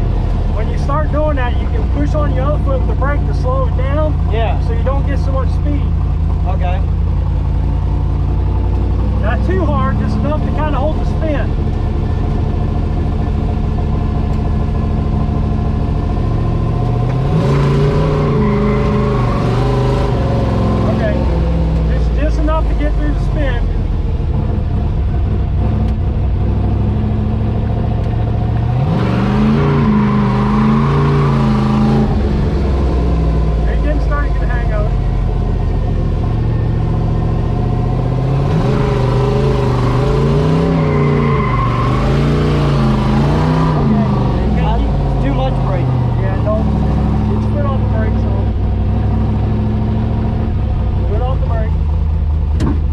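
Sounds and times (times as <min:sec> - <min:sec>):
truck engine revving: 0:00.0 - 0:52.9.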